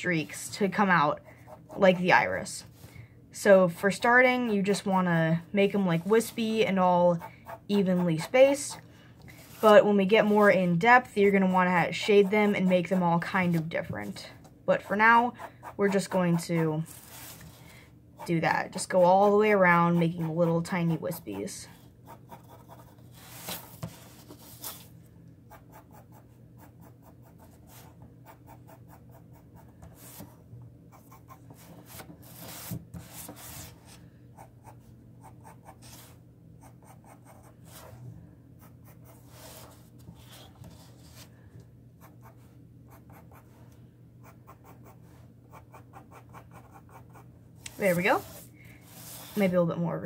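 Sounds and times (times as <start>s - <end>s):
faint low hum: 0.0s - 50.0s
pencil scratching on paper: 1.4s - 2.2s, 5.7s - 8.8s, 9.4s - 17.6s, 18.2s - 24.9s, 25.5s - 38.0s, 38.6s - 41.3s, 42.0s - 43.6s, 44.2s - 49.6s.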